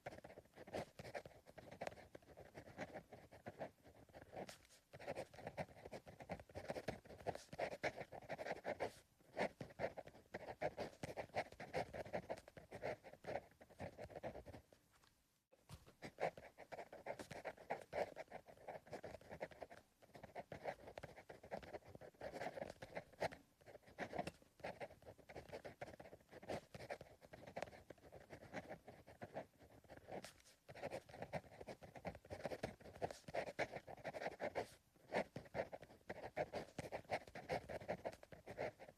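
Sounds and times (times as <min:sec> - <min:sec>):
pencil scratching on paper: 0:00.0 - 0:14.8, 0:15.7 - 0:38.9.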